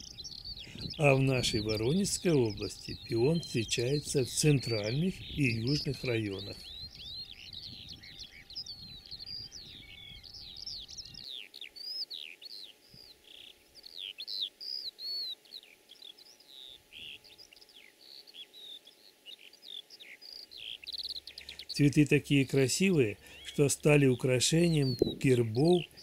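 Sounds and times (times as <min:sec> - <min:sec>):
songbirds chirping and whistling: 0:00.0 - 0:26.0.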